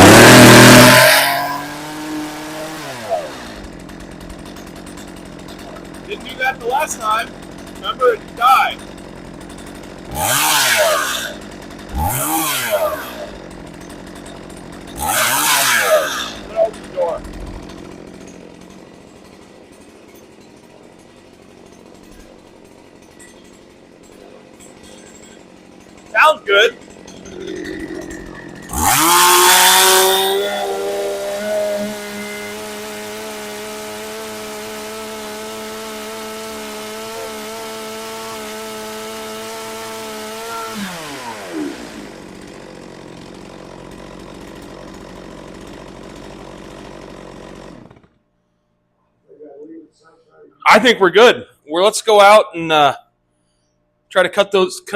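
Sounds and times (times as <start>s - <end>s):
chainsaw running: 0.0s - 48.2s, 50.7s - 51.3s.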